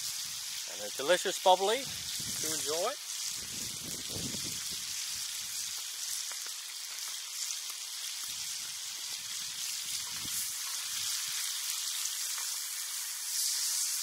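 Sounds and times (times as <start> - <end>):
bacon sizzling in a frying pan: 0.0 - 14.0.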